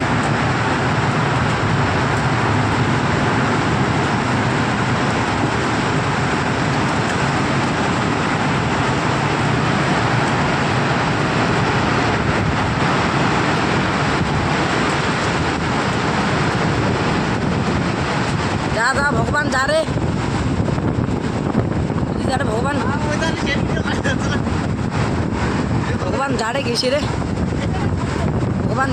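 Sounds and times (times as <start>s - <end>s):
strong wind rushing: 0.0s - 28.9s.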